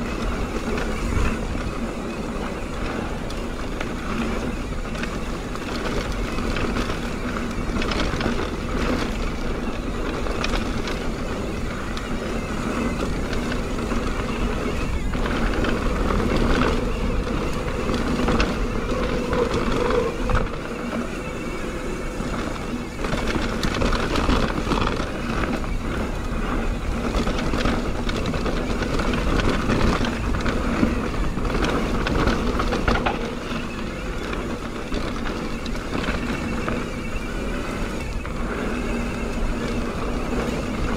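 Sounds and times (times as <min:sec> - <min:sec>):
bike knocking and rattling: 0:00.0 - 0:40.9
rushing wind noise: 0:00.0 - 0:40.9
tyres on dirt: 0:00.0 - 0:40.9.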